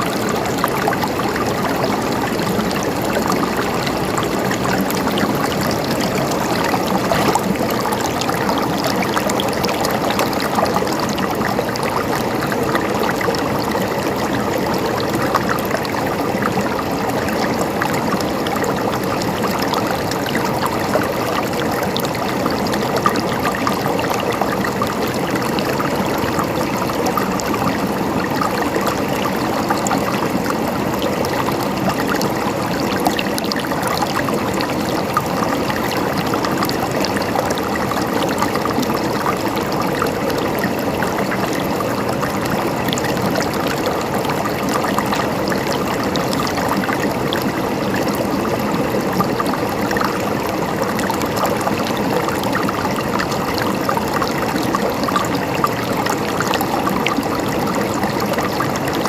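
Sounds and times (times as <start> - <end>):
river water splashing over stones: 0.0 - 59.0.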